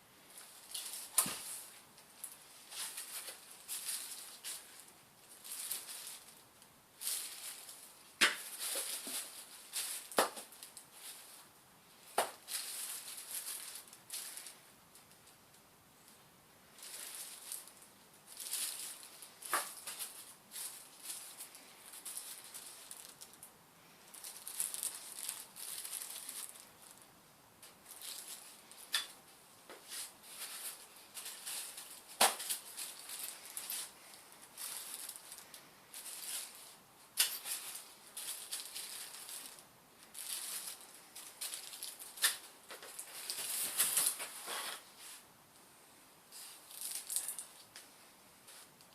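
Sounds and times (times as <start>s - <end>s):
packaging rustling: 0.4s - 6.4s, 7.0s - 11.4s, 12.2s - 15.1s, 16.8s - 23.4s, 24.1s - 27.0s, 27.6s - 29.2s, 29.8s - 44.8s.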